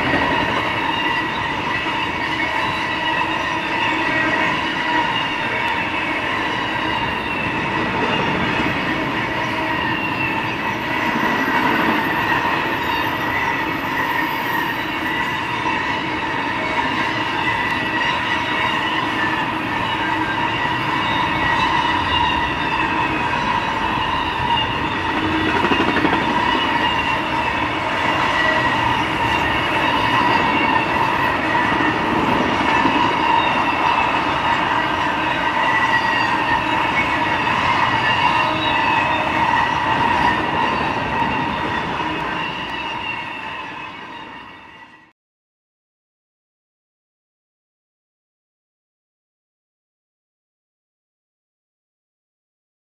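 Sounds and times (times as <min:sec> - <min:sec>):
high-pitched wheel squeal: 0:00.0 - 0:45.1
train wheels rumbling on rail: 0:00.0 - 0:45.1.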